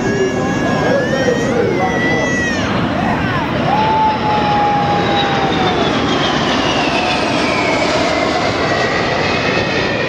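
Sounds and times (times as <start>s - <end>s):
jet aircraft flyby: 0.0s - 10.0s.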